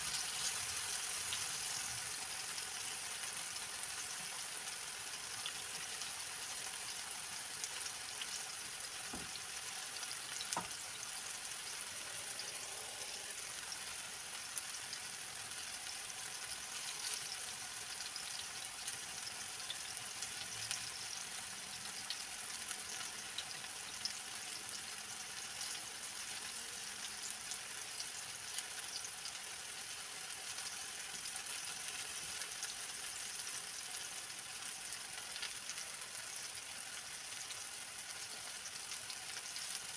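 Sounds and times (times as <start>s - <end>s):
slices frying in hot oil: 0.0s - 39.9s.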